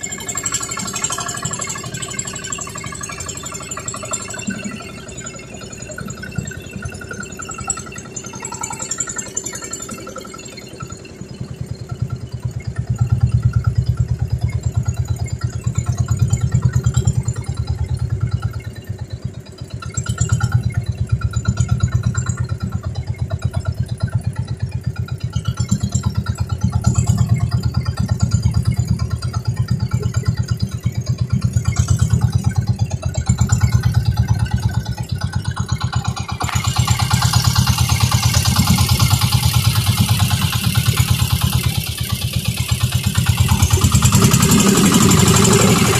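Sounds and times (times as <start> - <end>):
boat engine pulsing drone: 0.0 - 45.9.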